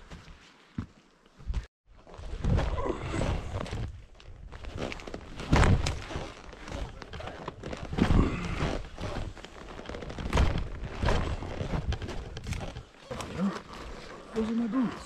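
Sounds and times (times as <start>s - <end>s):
branches and debris brushing: 2.0s - 15.0s.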